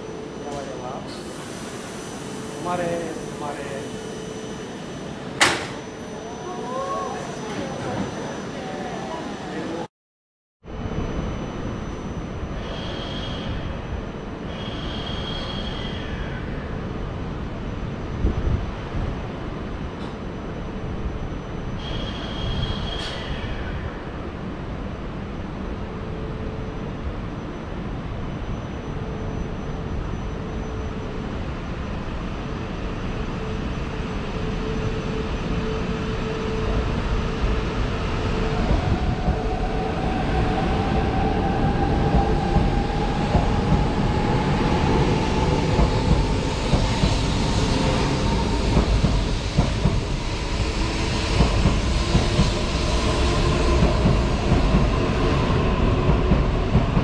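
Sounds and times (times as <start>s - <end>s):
train low rumble: 10.6s - 57.0s.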